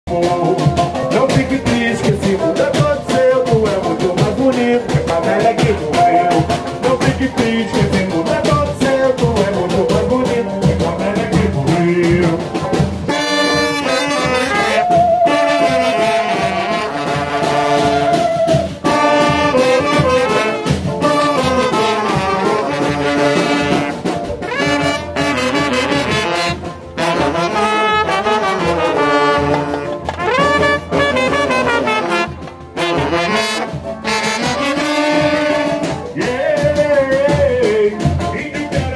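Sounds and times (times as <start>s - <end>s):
brass band playing: 0.1s - 38.9s.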